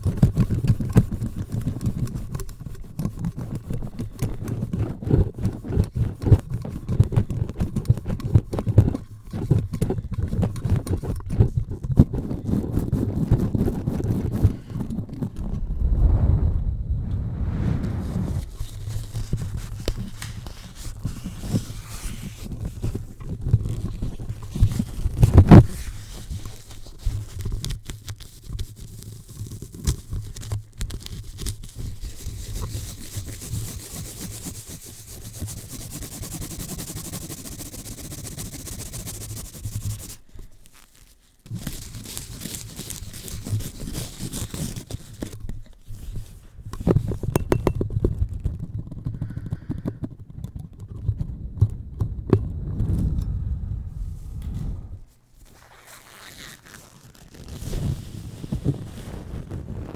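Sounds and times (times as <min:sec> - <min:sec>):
scrubbing on a microphone: 0:00.0 - 0:51.4, 0:52.1 - 0:59.9.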